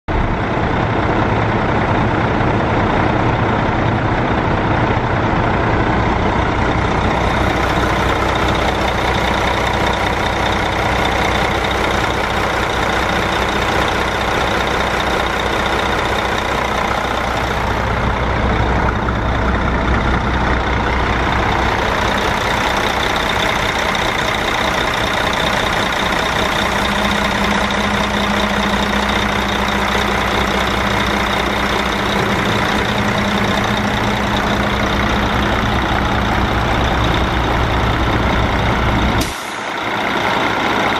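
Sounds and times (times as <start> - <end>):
diesel truck engine idling: 0.1 - 40.9
steady low tone: 0.1 - 40.9.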